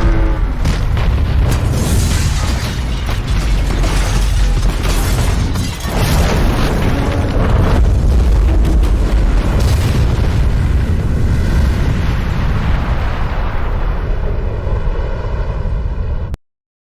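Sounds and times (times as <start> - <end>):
explosion rumble with crackling: 0.0 - 16.4.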